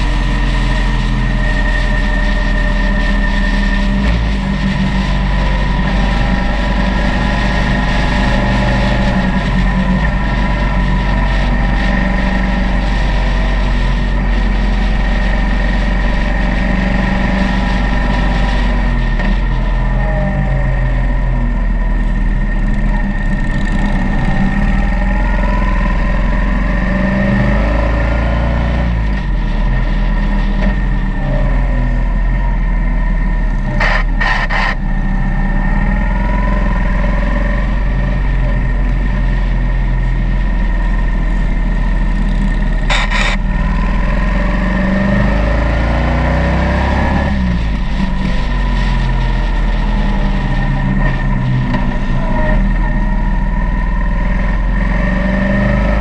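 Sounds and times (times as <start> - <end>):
motorcycle engine accelerating: 0.0 - 56.0
riding wind noise: 0.0 - 56.0.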